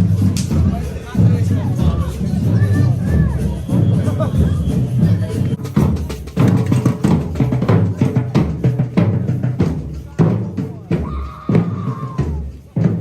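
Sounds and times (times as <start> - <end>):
drums playing a busy rhythm: 0.0 - 13.0.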